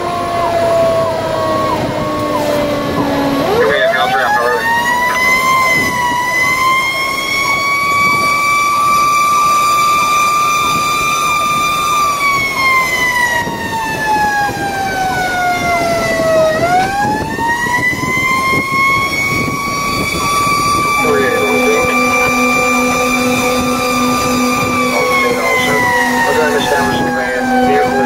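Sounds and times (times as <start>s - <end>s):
fire engine siren wailing: 0.0s - 28.0s
road and engine noise: 0.0s - 28.0s.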